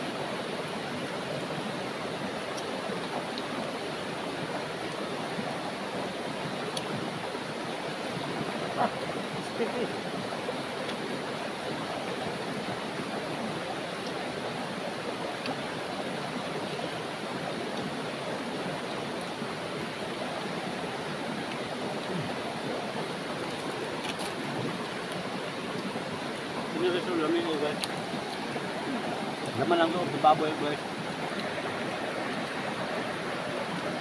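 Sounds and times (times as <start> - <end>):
river rushing over rocks: 0.0 - 34.0.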